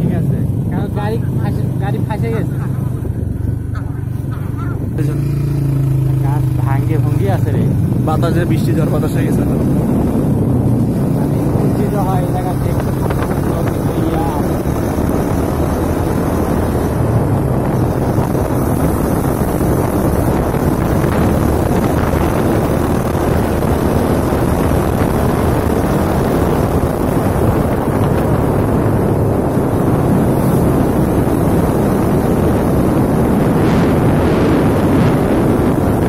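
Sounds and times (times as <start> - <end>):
motorcycle engine: 0.0 - 36.0
road noise: 0.0 - 36.0
wind rush on microphone: 0.0 - 36.0.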